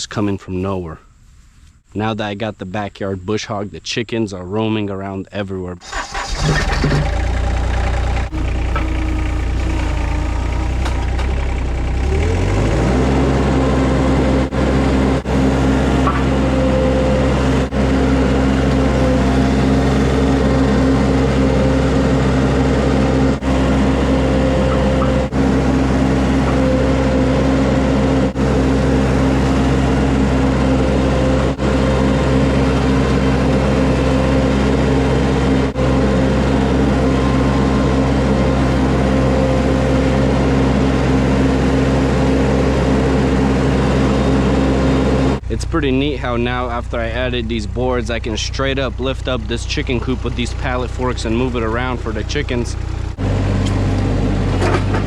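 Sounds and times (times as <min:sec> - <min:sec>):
tractor engine revving: 0:05.8 - 0:55.0.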